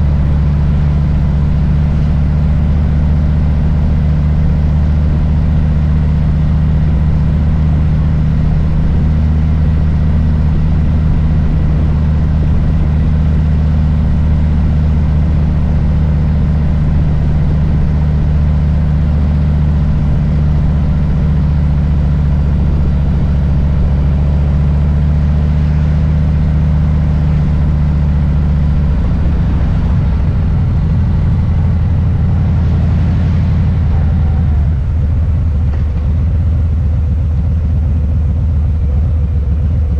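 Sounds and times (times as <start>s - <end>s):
motorcycle engine deep rumble: 0.0s - 39.9s.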